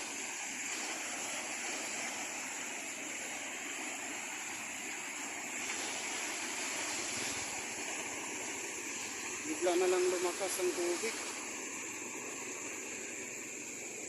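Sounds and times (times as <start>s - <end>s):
floodwater rushing down creek: 0.0s - 14.0s.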